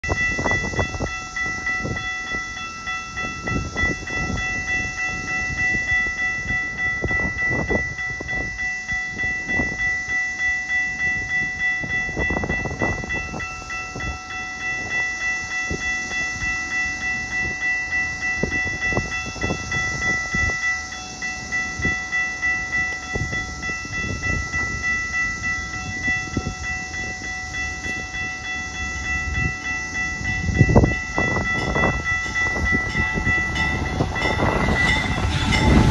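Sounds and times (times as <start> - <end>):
railroad crossing bell ringing: 0.0 - 35.9
train rumbling: 0.0 - 35.9.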